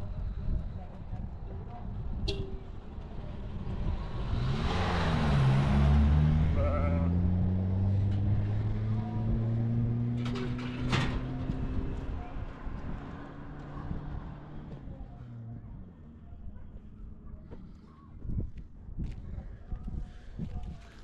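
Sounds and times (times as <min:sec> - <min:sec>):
vehicle engine droning: 0:00.0 - 0:18.4.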